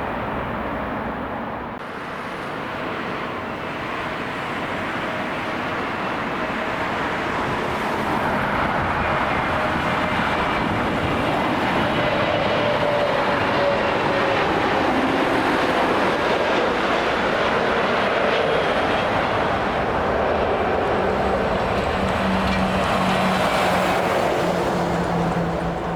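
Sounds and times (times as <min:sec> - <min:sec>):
jet engines passing: 0:00.0 - 0:25.9.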